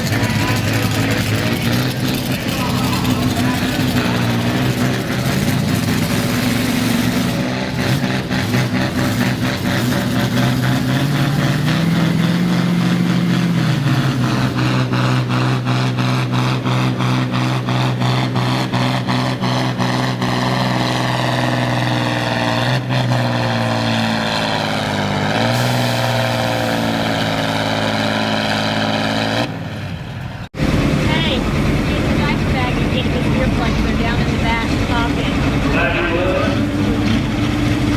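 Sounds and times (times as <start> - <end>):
tractor engine running hard: 0.0 - 37.9.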